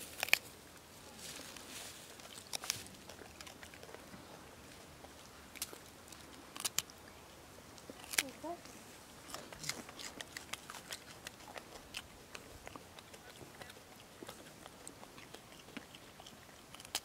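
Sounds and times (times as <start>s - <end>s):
monkey chewing food: 0.0s - 17.0s.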